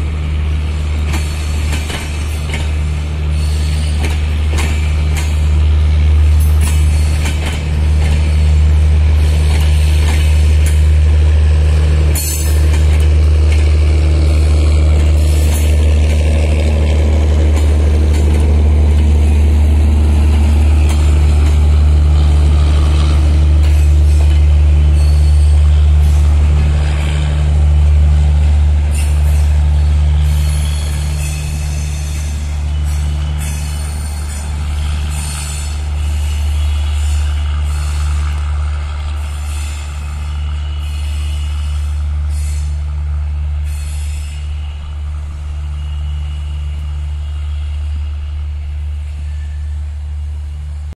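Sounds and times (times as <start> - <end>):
train coaches rolling past: 0.0 - 50.9.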